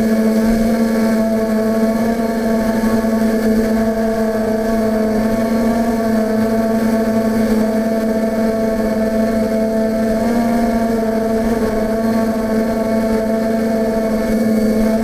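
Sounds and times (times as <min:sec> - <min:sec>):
drone motors and propellers humming: 0:00.0 - 0:15.0.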